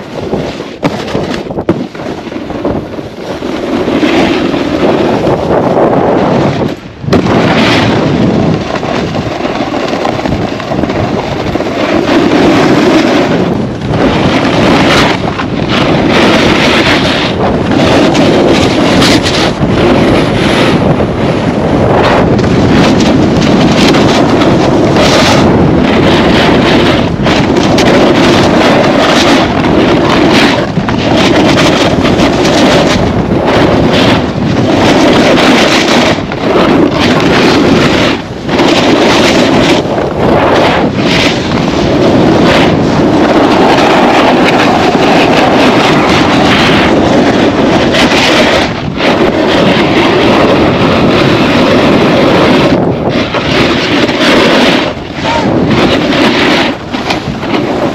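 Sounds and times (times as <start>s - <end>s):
skis sliding on snow: 0.0s - 57.9s
wind buffeting microphone: 0.0s - 57.9s.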